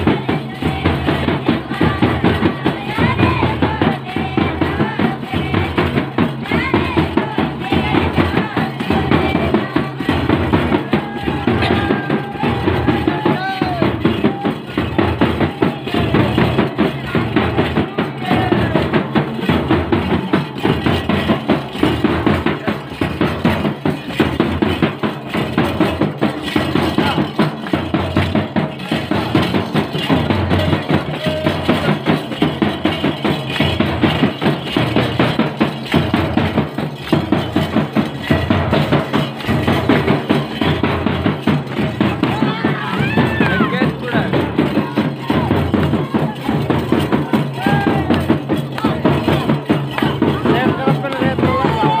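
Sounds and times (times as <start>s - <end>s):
hand drum beaten fast: 0.0s - 52.0s.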